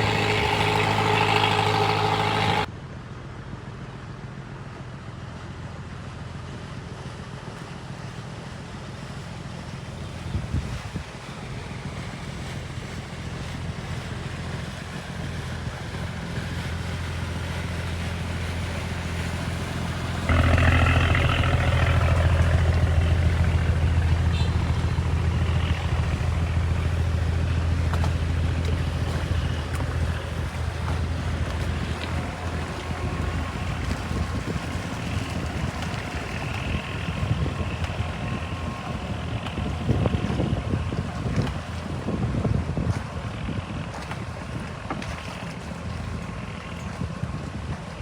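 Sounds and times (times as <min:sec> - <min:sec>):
water noise: 0:00.0 - 0:02.7, 0:07.1 - 0:48.0
boat engine humming: 0:00.0 - 0:48.0
wind: 0:00.0 - 0:48.0.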